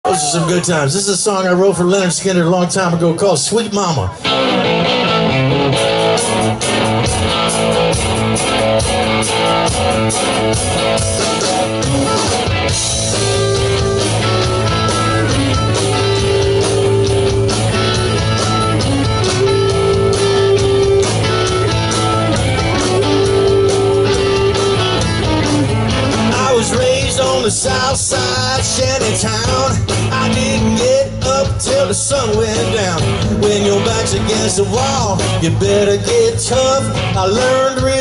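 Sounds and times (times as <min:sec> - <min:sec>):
rock band playing: 0:00.0 - 0:38.0
electric guitar held notes: 0:04.0 - 0:37.4.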